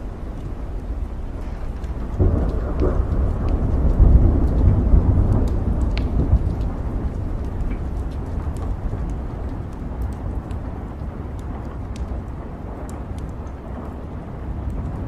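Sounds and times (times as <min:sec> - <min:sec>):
steady rain: 0:00.0 - 0:15.0
thunder rolling: 0:00.0 - 0:15.0.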